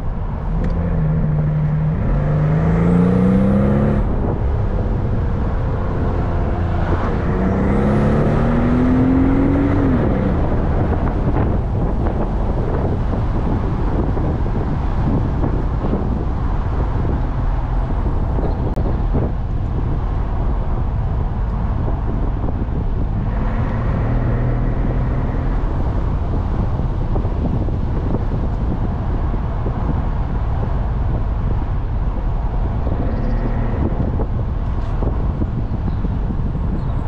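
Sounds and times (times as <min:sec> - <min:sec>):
car engine running: 0:00.0 - 0:37.0
road and wind noise: 0:00.0 - 0:37.0.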